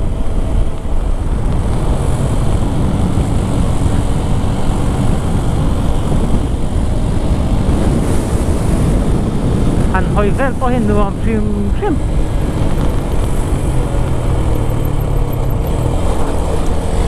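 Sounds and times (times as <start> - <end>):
motorcycle engine running: 0.0 - 17.0
wind rushing on microphone: 0.0 - 17.0.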